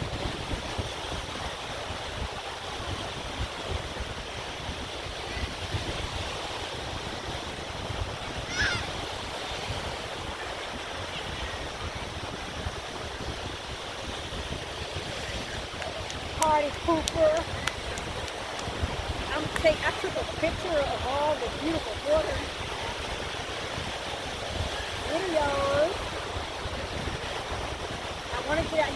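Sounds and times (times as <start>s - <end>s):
surf washing on beach: 0.0s - 28.9s
wind buffeting microphone: 0.0s - 28.9s.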